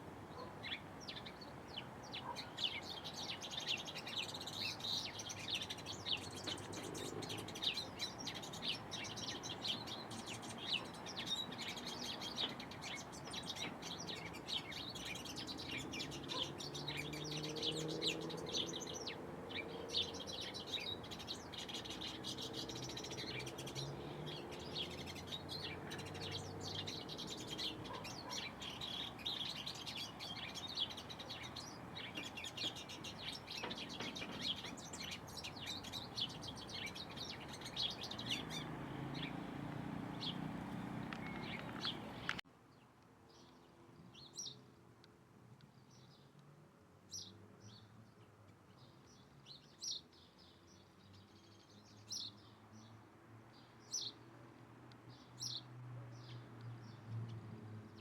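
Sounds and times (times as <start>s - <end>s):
small birds chirping: 0.0s - 46.5s, 47.1s - 58.0s.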